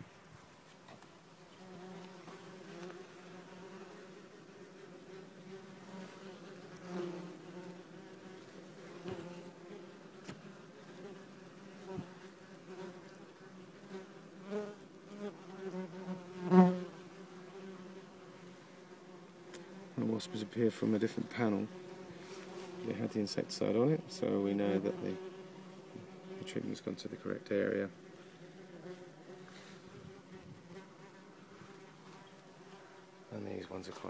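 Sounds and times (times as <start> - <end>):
wasps buzzing: 1.6 - 33.6.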